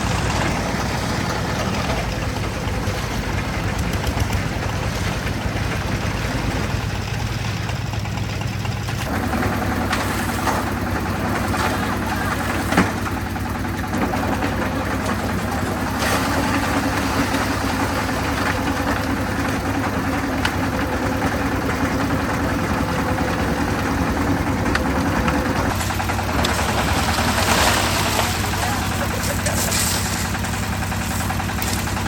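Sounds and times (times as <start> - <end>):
concrete mixer engine rumbling: 0.0 - 32.0.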